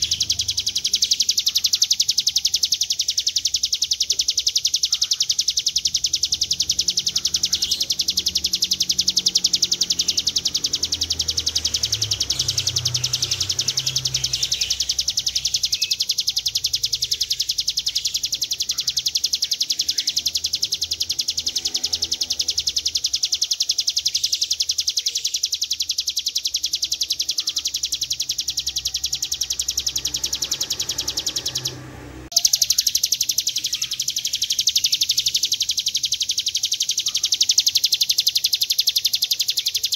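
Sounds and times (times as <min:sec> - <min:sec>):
bird singing high rattling trill: 0:00.0 - 0:39.9.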